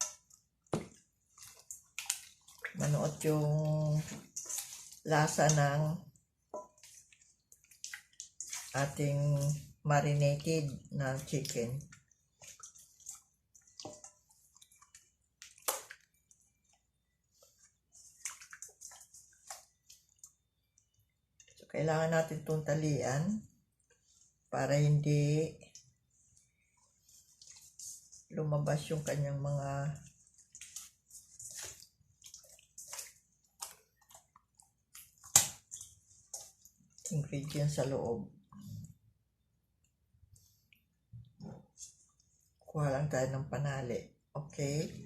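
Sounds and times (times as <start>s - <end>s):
wet squishing of raw chicken: 0.0s - 22.7s, 23.4s - 24.6s, 25.3s - 42.9s.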